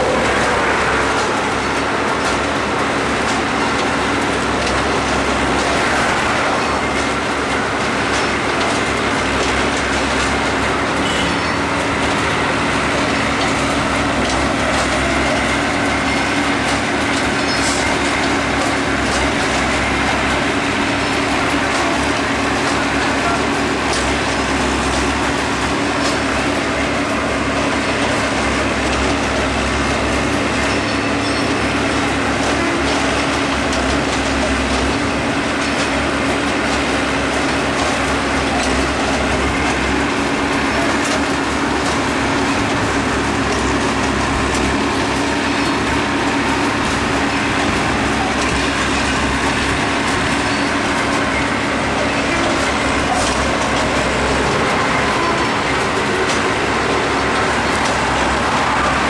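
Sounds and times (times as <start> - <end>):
rail machine engine running: 0.0 - 59.0.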